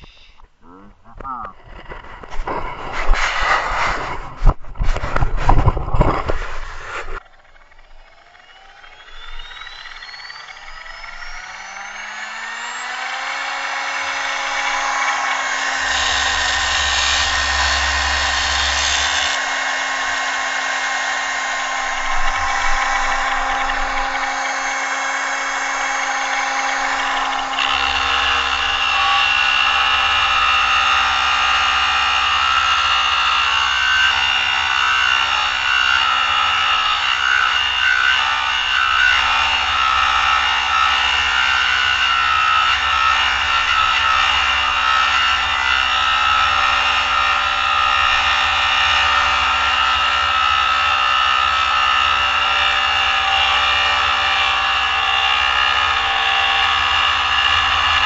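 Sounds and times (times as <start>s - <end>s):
angle grinder motor whine: 0.0s - 58.0s
grinding disc cutting steel: 0.0s - 58.0s.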